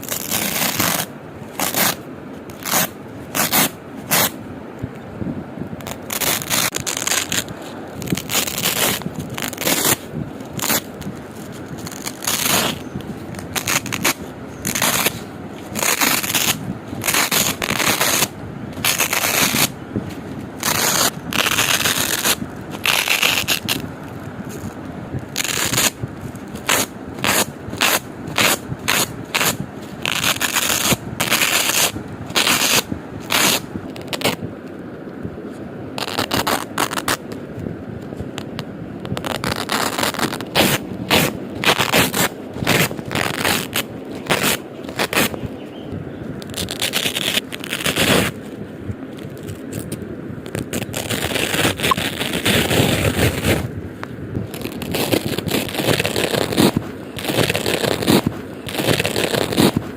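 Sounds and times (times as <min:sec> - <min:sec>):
velcro strips ripping apart: 0:00.0 - 0:04.4, 0:05.8 - 0:19.8, 0:20.6 - 0:23.8, 0:24.5 - 0:34.4, 0:36.0 - 0:37.4, 0:38.4 - 0:45.4, 0:46.4 - 0:48.4, 0:49.2 - 0:53.7, 0:54.5 - 0:59.9.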